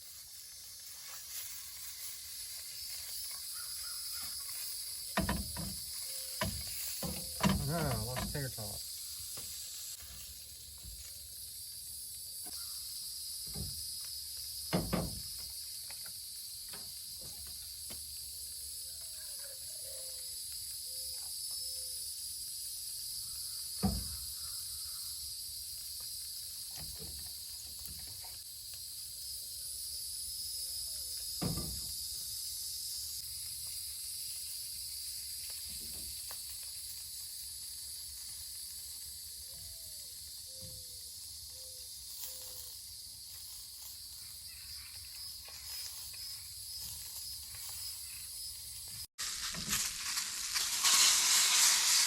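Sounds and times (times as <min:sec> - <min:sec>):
food sizzling in a frying pan: 0:00.0 - 0:52.0.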